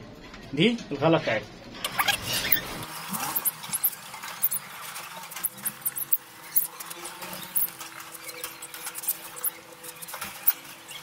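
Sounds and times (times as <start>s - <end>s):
cage birds chirping: 1.9s - 11.0s.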